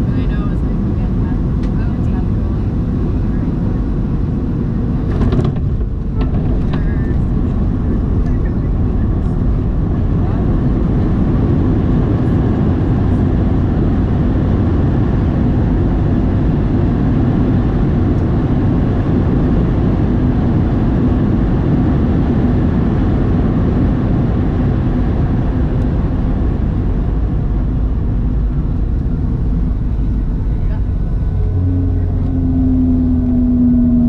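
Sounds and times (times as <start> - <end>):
jet cabin engine rumble: 0.0 - 34.0.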